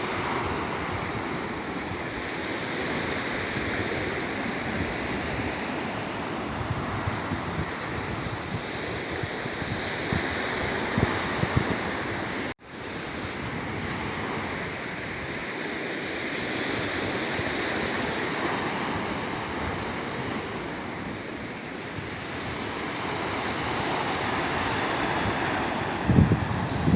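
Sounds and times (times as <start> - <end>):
waves washing onto shore: 0.0 - 26.9.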